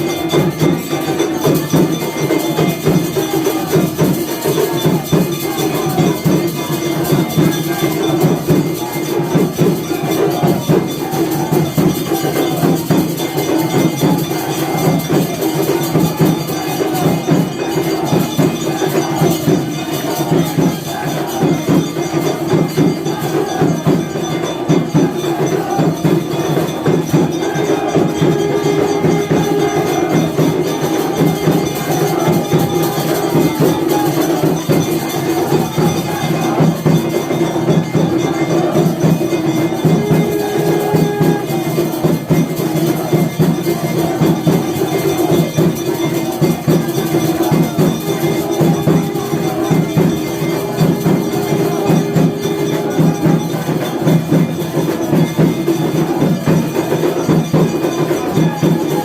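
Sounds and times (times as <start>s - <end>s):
bells cymbals and drums clanging: 0.0s - 59.0s.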